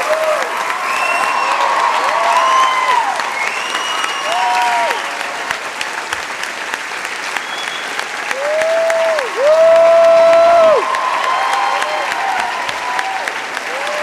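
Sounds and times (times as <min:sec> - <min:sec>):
audience whooping: 0:00.0 - 0:05.8, 0:07.3 - 0:14.0
audience clapping: 0:00.0 - 0:14.0.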